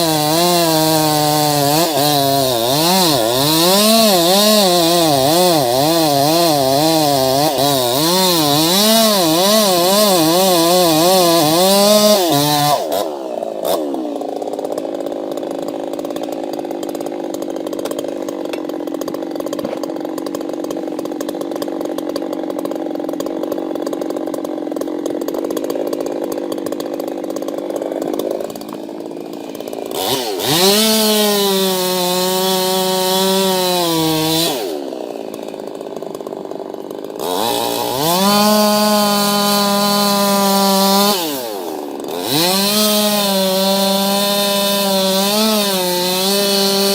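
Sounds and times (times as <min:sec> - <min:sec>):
chainsaw running at high revs: 0:00.0 - 0:46.9.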